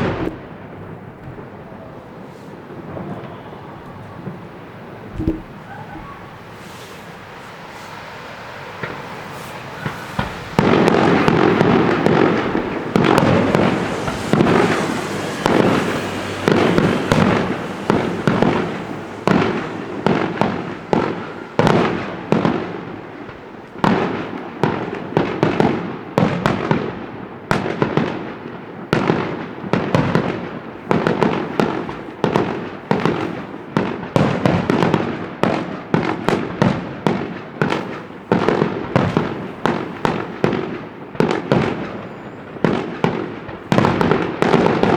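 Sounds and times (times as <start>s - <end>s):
fireworks banging: 0.0s - 44.9s.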